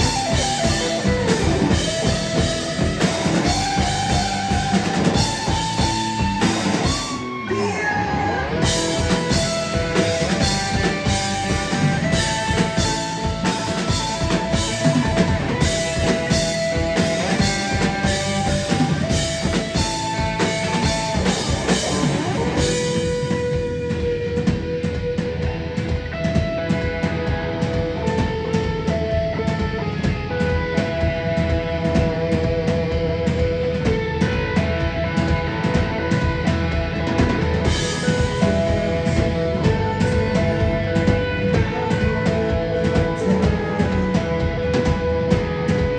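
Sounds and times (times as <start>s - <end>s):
drum kit beat: 0.0s - 45.9s
guitar melody notes: 0.0s - 45.9s
rock band playing live: 0.0s - 45.9s.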